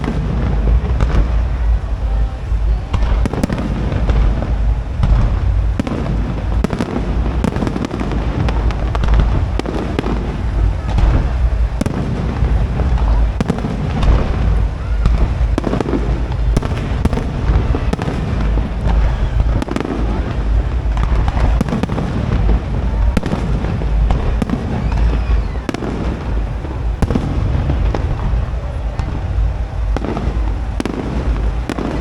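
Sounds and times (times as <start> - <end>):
deep rumble: 0.0 - 32.0.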